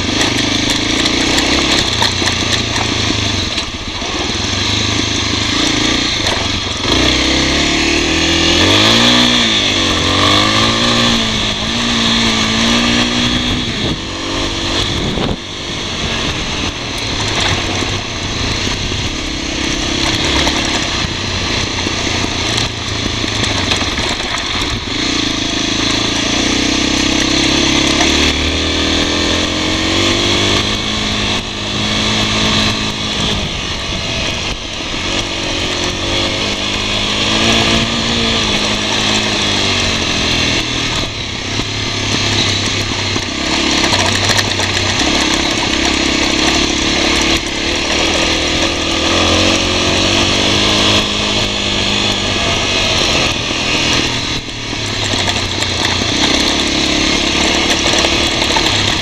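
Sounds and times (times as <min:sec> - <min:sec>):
motorcycle engine revving: 0:00.0 - 0:59.0
wind and tyre noise: 0:00.0 - 0:59.0.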